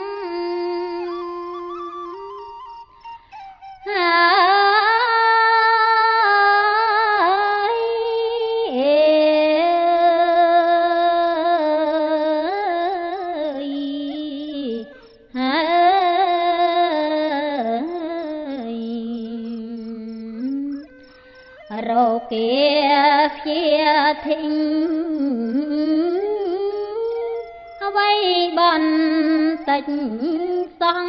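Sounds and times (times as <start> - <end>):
woman chanting unaccompanied: 0.0 - 2.6, 3.9 - 31.0.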